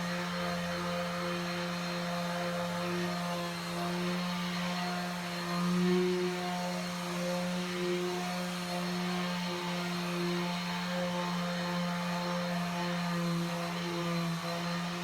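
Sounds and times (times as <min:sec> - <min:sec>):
electric sander humming: 0:00.0 - 0:15.0.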